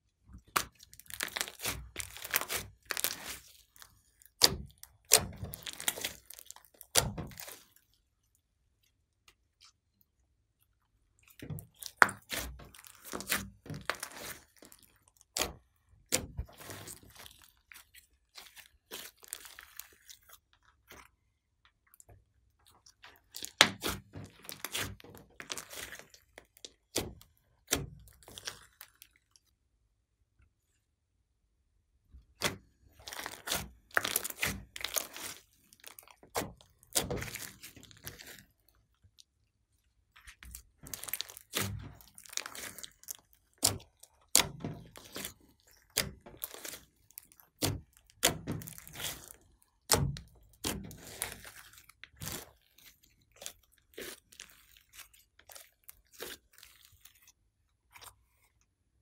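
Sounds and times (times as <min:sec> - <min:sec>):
slime crackling and popping: 0:00.3 - 0:08.0, 0:11.2 - 0:21.1, 0:22.8 - 0:29.5, 0:32.4 - 0:39.4, 0:40.0 - 0:58.1.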